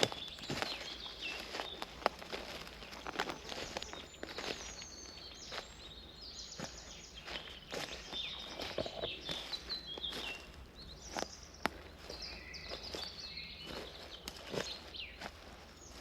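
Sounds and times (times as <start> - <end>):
footsteps crunching on path: 0.0 - 16.0
songbirds singing: 0.0 - 16.0.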